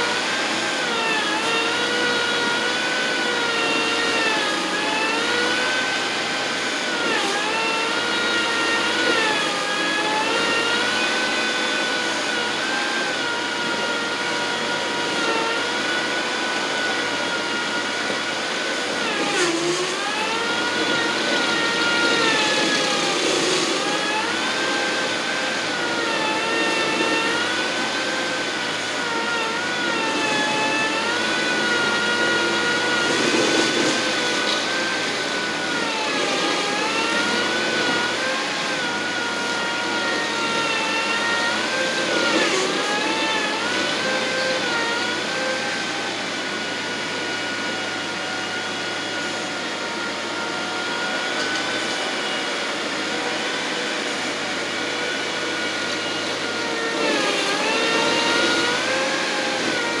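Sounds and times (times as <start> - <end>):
landscaping machine engine under load: 0.0 - 60.0.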